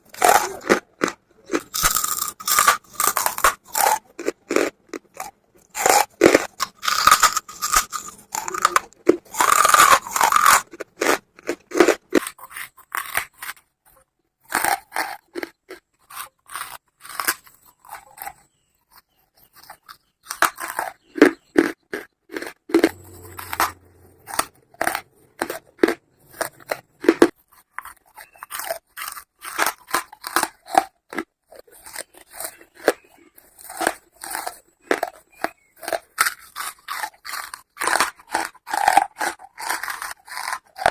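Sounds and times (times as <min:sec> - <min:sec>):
person crunching charcoal: 0:00.0 - 0:13.7, 0:14.4 - 0:40.9.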